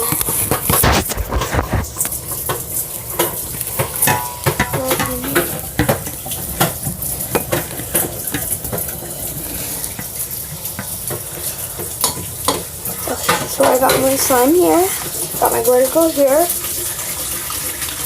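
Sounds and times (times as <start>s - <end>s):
slime being stirred: 0.0s - 16.5s.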